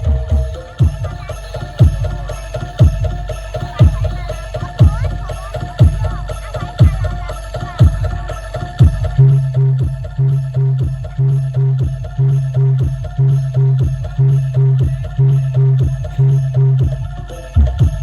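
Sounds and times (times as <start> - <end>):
deep drum beats: 0.0 - 18.0
light fast percussion: 0.0 - 18.0
steady held tone: 0.0 - 18.0.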